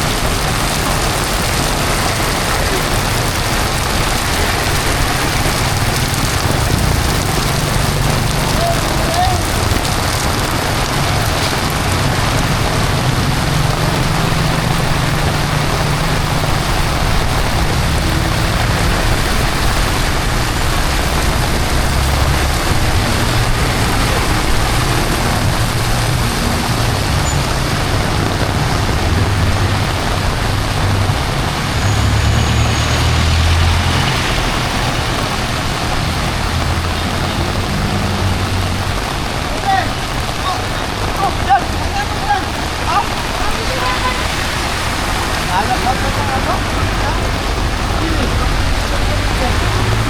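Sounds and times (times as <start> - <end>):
heavy rain falling: 0.0 - 50.0
road traffic rumble: 0.0 - 50.0.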